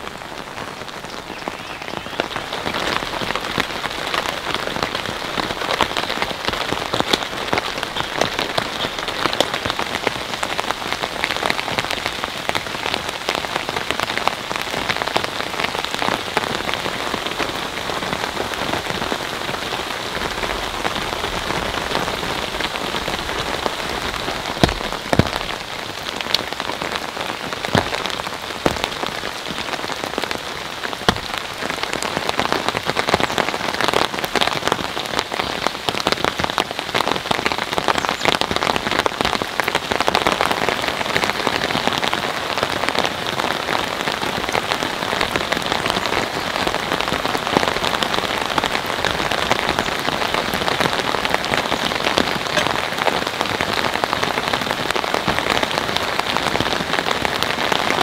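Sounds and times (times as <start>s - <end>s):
heavy rain falling: 0.0s - 58.0s
raindrops ticking on a surface: 0.0s - 58.0s.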